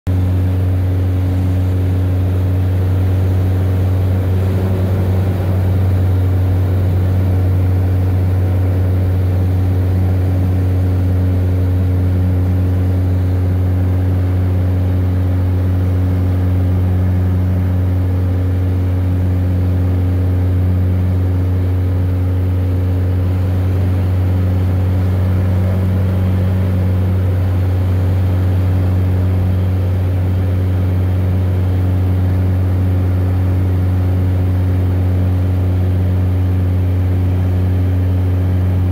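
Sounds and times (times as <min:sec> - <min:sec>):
propeller aircraft engine droning: 0:00.1 - 0:38.9.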